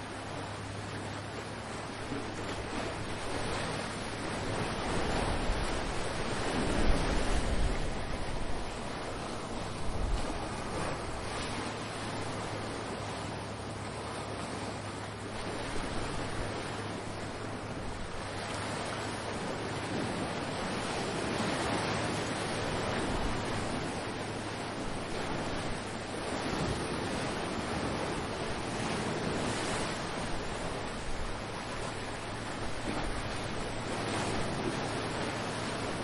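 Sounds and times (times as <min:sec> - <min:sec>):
ocean waves breaking: 0:00.0 - 0:36.0
wind on microphone: 0:01.6 - 0:36.0.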